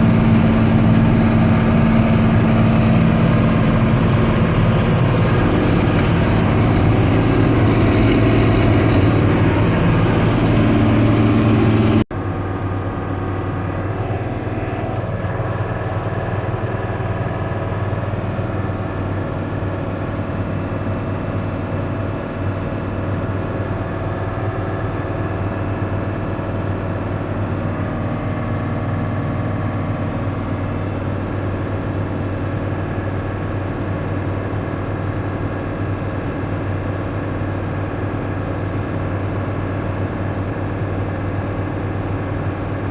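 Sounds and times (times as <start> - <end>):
combine harvester drone: 0.0 - 42.9.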